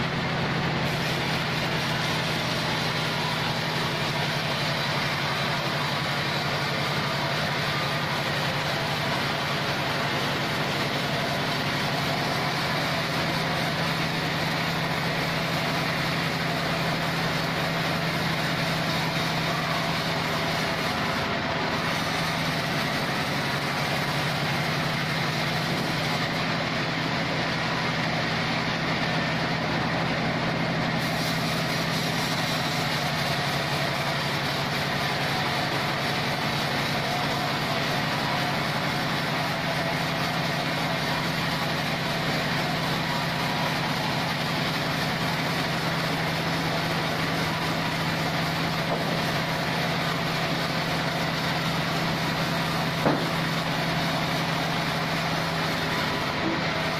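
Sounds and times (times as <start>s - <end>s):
sawmill machinery droning: 0.0s - 56.9s.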